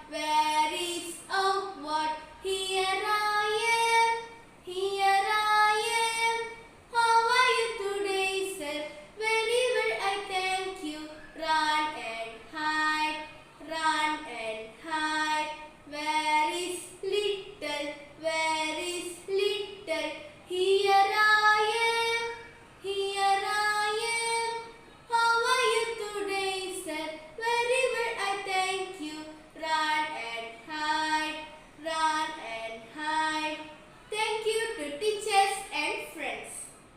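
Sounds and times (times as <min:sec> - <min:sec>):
girl singing unaccompanied: 0:00.0 - 0:36.9.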